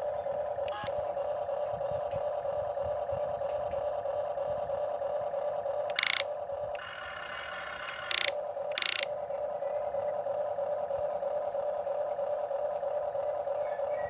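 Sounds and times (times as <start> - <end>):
toy electric motors humming: 0.0 - 14.0.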